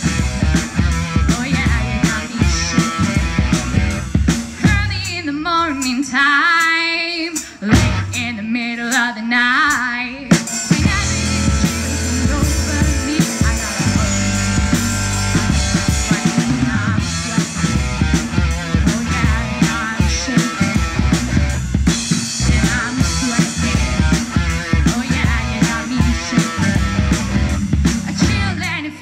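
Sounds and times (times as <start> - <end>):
live rock band instrumental: 0.0 - 29.0.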